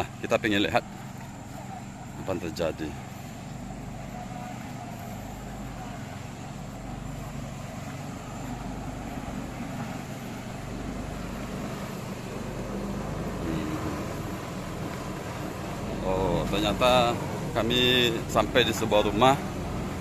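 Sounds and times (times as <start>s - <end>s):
machine motor humming: 0.0s - 20.0s.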